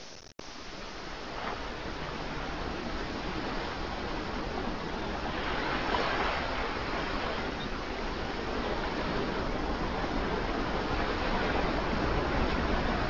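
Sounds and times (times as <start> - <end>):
sea waves surf: 0.4 - 13.0
wave breaking: 1.2 - 13.0.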